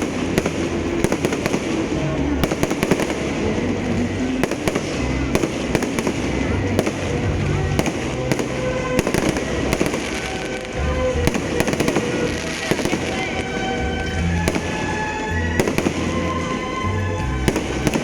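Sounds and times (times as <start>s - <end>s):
fireworks bangs and crackles: 0.0s - 18.0s
steady background noise: 0.0s - 18.0s.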